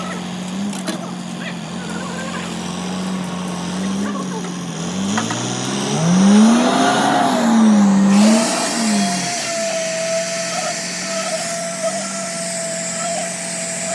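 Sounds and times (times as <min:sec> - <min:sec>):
constant high whine: 0:00.0 - 0:13.9
machinery engine revving: 0:00.0 - 0:13.9.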